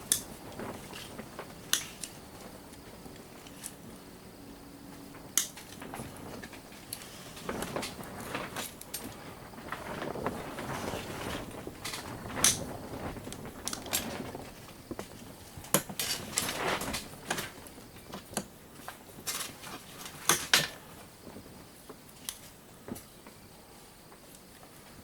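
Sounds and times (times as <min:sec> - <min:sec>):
rustling: 0:04.9 - 0:25.0.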